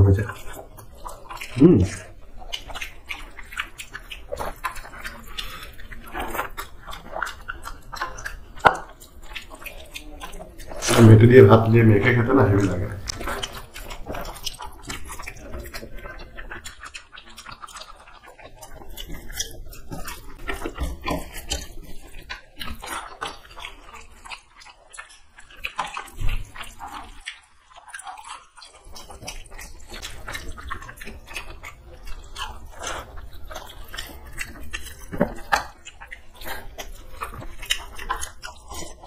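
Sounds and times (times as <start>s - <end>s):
chewing and lip-smacking: 0.0s - 39.0s
fingers mixing rice on a plate: 0.0s - 39.0s.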